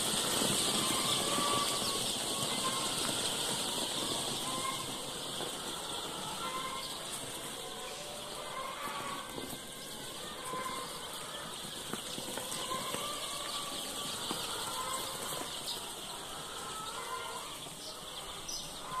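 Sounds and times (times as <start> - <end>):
baby chicks peeping: 0.0 - 19.0.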